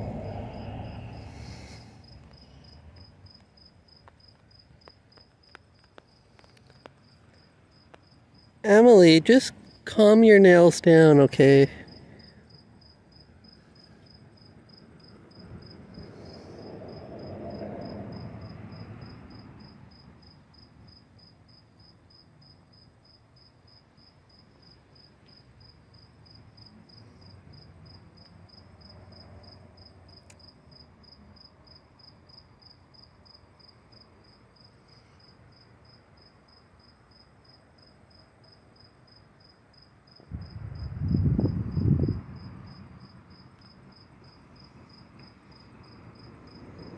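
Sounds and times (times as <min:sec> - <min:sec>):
cricket chirping: 0:00.0 - 0:46.9.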